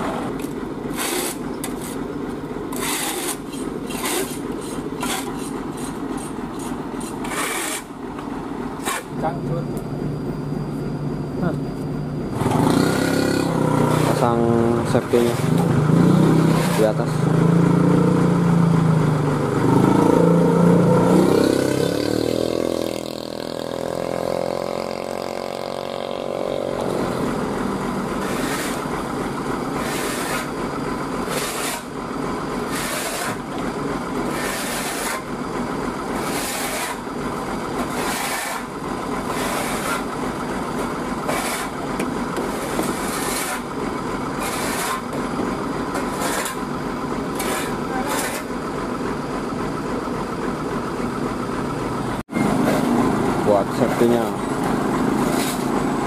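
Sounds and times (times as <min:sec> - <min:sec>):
diesel truck machinery running: 0:00.0 - 0:56.0.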